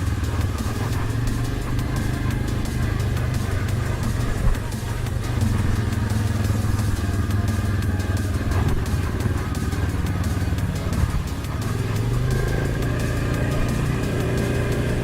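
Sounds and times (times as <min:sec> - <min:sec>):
atv engine running: 0:00.0 - 0:15.0
quad clattering over rough ground: 0:00.0 - 0:15.0.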